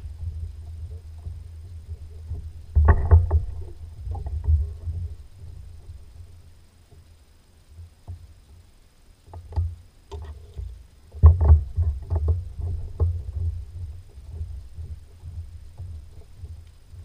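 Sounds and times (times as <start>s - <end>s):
water lapping against boat hull: 0.0s - 7.1s, 9.2s - 17.0s.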